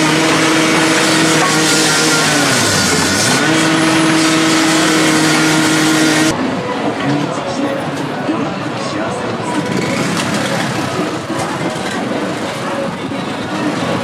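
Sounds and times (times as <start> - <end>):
excavator diesel engine: 0.0 - 6.4, 8.0 - 14.0.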